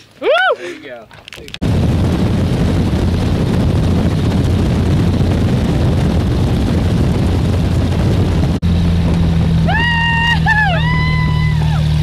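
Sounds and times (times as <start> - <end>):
propeller wash and wind rushing: 0.0 - 12.0
propeller plane engine running: 1.6 - 12.0.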